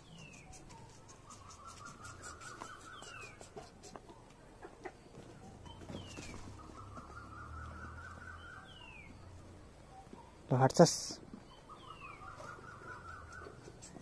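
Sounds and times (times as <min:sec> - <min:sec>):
wavering bird trill: 0:00.0 - 0:03.8, 0:04.9 - 0:10.4, 0:11.4 - 0:14.0.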